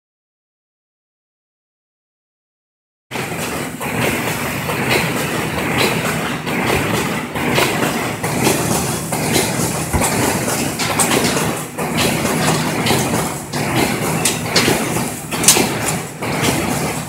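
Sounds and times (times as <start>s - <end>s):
machine clacks and knocks: 3.1s - 17.0s
machine mechanical din: 3.1s - 17.0s.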